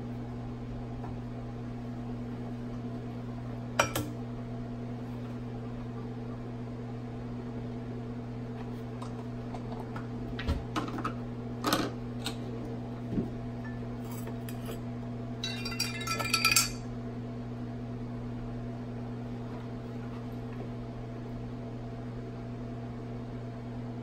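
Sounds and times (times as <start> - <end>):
hot plate electrical hum: 0.0 - 24.0.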